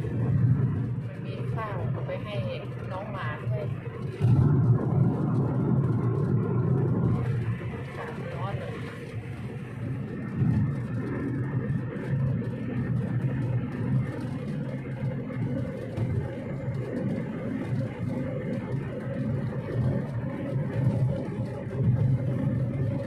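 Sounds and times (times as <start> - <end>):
faint steady hum: 0.0 - 23.0
vehicle engine and road rumble: 0.0 - 23.0.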